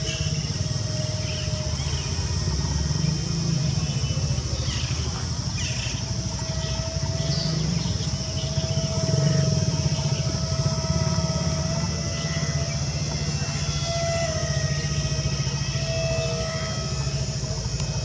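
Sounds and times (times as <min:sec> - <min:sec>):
steady high whine: 0:00.0 - 0:18.0.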